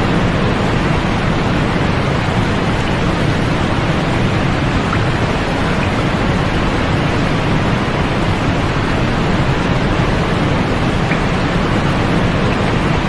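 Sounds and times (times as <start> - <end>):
continuous rushing hiss: 0.0 - 13.0.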